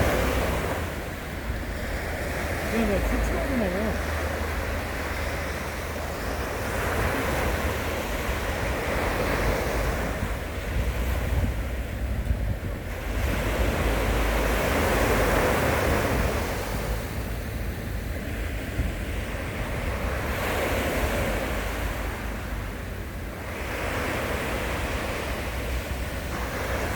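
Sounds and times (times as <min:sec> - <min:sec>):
sea waves breaking on shore: 0:00.0 - 0:26.9
wind rumbling on microphone: 0:00.0 - 0:26.9.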